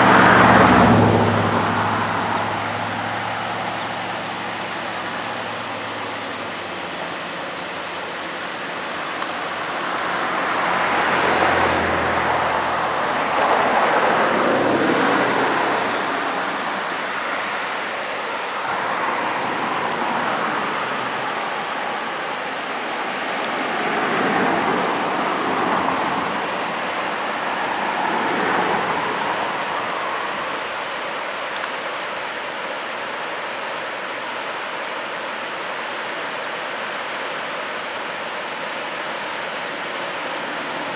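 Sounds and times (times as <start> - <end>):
road traffic passing: 0.0 - 31.7, 37.8 - 40.9
river water over rocks: 0.0 - 40.9.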